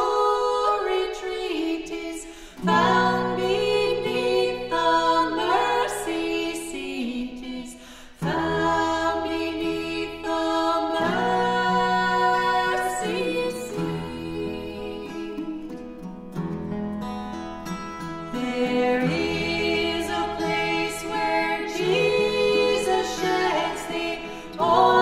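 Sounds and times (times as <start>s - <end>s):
women's choir singing a hymn: 0.0s - 15.8s, 18.2s - 25.0s.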